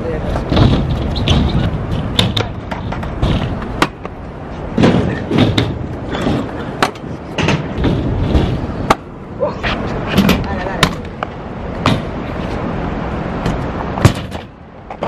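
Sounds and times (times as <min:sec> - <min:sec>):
scooters clacking on ground: 0:00.0 - 0:12.6
scooter wheels rolling on concrete: 0:00.0 - 0:15.0.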